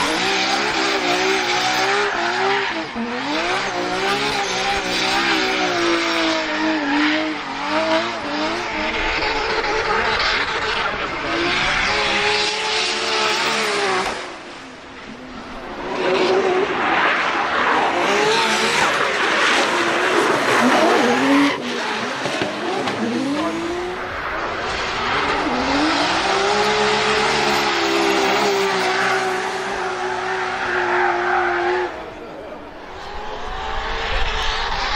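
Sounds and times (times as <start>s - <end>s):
tyres skidding and squealing: 0.0s - 14.1s, 14.9s - 34.9s
car engine revving hard: 0.0s - 14.2s, 17.9s - 32.0s.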